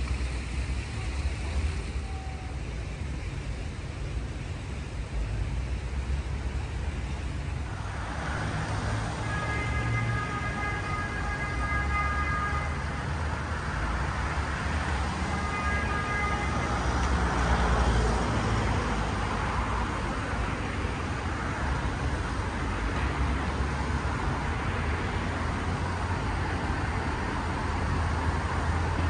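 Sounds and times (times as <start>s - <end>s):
passing cars: 0.0s - 29.0s.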